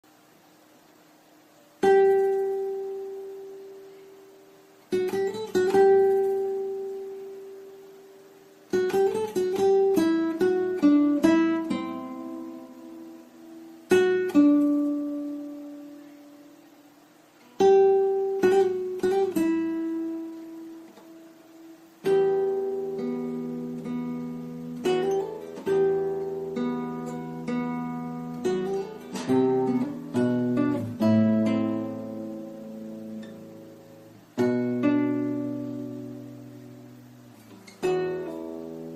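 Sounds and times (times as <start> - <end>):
acoustic guitar music: 0.9 - 38.9.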